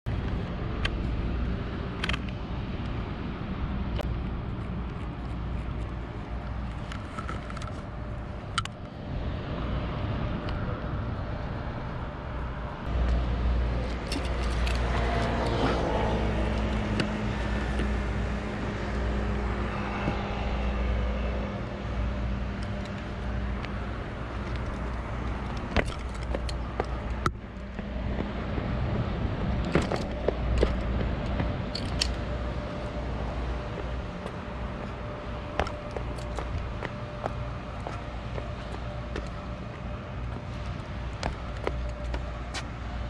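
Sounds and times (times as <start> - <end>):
road traffic rumble: 0.0 - 43.0
vehicle passing: 0.4 - 43.0.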